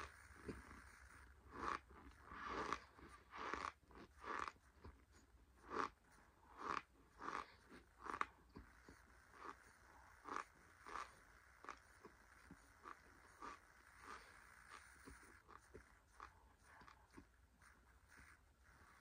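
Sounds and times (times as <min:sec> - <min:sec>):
chewing crunches: 0:00.0 - 0:17.3.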